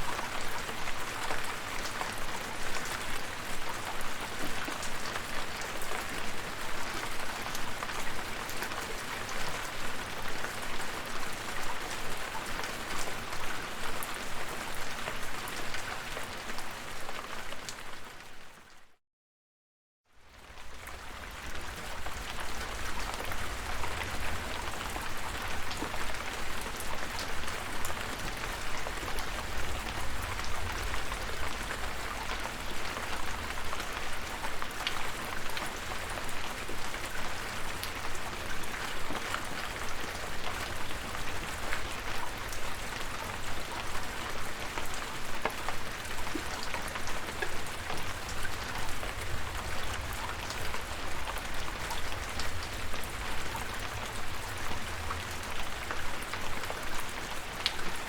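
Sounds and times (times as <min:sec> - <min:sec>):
steady rain with drops ticking: 0:00.0 - 0:19.0, 0:20.1 - 0:58.0.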